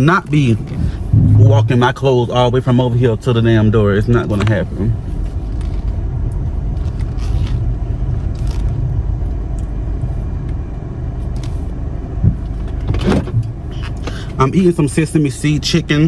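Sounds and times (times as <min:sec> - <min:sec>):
car engine low rumble: 0:00.0 - 0:16.0.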